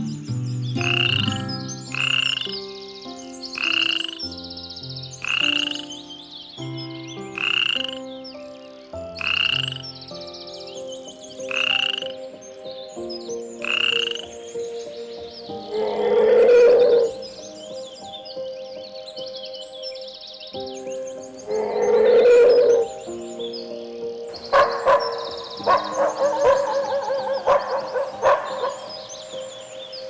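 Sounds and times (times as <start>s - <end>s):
slow background music: 0.0s - 30.0s.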